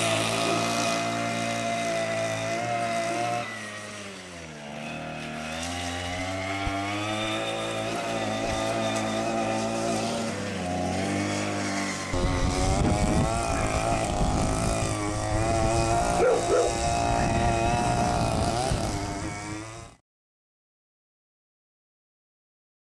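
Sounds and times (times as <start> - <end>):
small gas engine running: 0.0 - 20.0.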